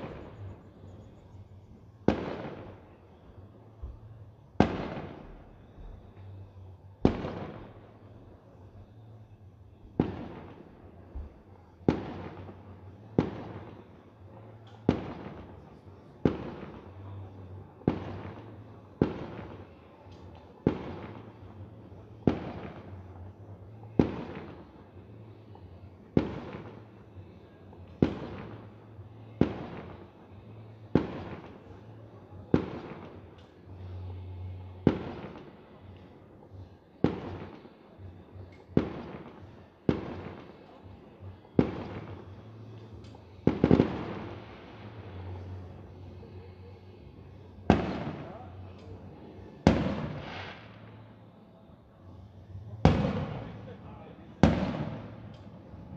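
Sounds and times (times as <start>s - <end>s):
fireworks bursting: 0.0s - 34.2s, 34.8s - 55.9s.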